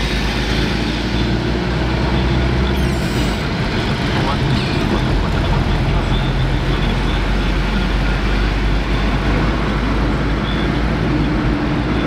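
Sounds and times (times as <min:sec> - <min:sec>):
car cabin road and engine rumble: 0:01.4 - 0:12.0.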